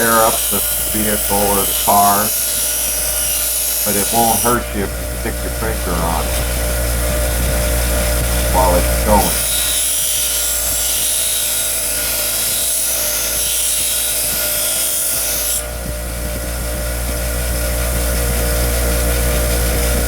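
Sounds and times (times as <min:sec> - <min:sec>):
wire wheel motor humming: 0:00.0 - 0:20.0.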